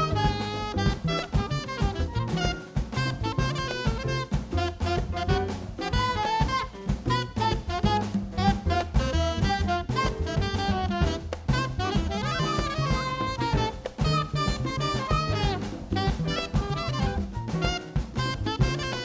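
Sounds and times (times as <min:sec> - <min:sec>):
jazz band playing: 0:00.0 - 0:19.0
saxophone quick melodic runs: 0:00.0 - 0:19.0.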